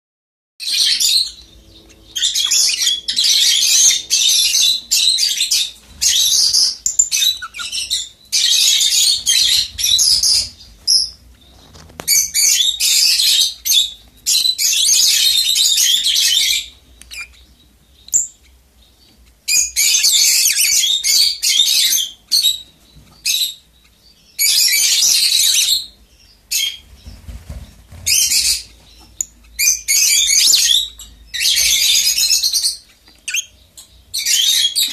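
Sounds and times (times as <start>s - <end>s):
lovebirds chattering shrilly: 0.6s - 34.9s.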